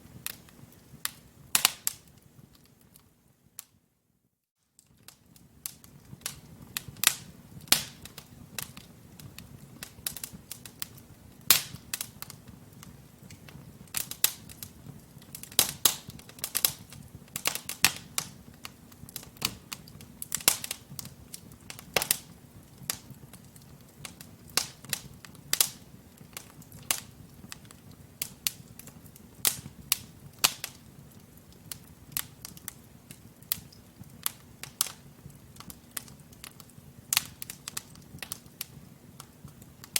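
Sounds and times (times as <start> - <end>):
low rumble of flames: 0.0 - 3.6, 4.9 - 39.9
fire crackling and popping: 0.0 - 3.8, 4.6 - 39.9.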